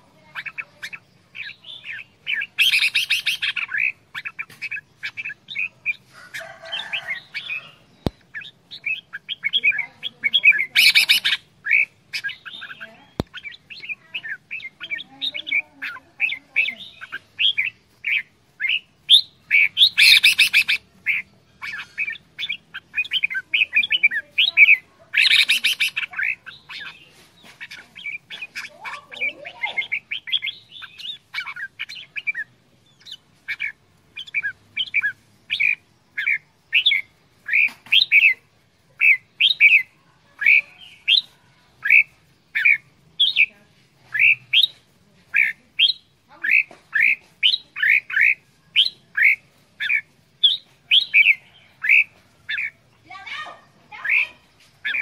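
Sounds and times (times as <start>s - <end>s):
bird chattering calls: 0.0s - 55.0s
bird harsh squawk: 0.2s - 43.5s, 45.3s - 55.0s.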